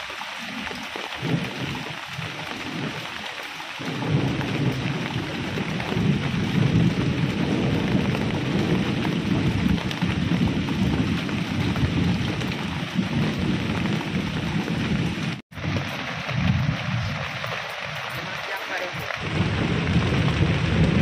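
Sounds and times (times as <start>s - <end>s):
heavy rain falling: 0.0s - 21.0s
low rumble of thunder: 0.5s - 21.0s.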